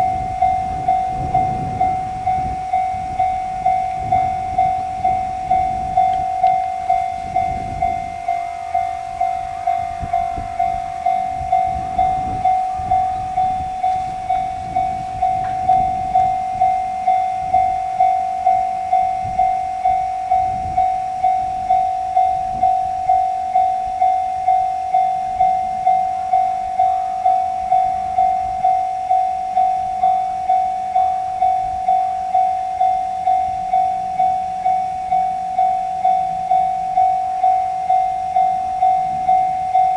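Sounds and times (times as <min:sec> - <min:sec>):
train rumble and wheel knocks: 0:00.0 - 0:32.4
level-crossing alarm ringing: 0:00.0 - 0:39.9.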